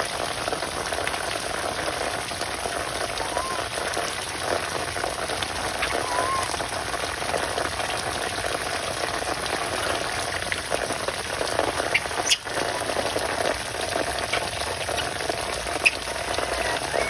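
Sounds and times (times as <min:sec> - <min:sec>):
heavy rain on leaves: 0:00.0 - 0:17.0.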